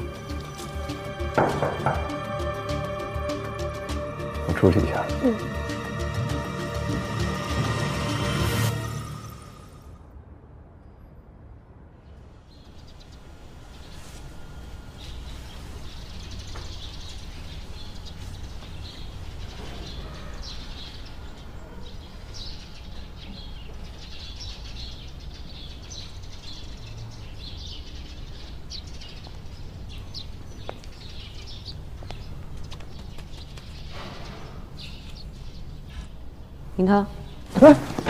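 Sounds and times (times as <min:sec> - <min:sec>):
songbirds chirping: 0:00.0 - 0:09.8, 0:12.1 - 0:38.0.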